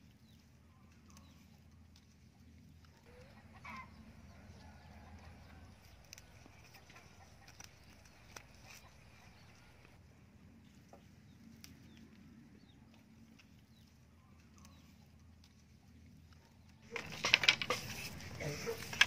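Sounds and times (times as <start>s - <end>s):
bamboo sticks cracking and knocking: 0.0s - 10.0s, 10.7s - 19.0s
soft bird chirps: 0.0s - 17.1s.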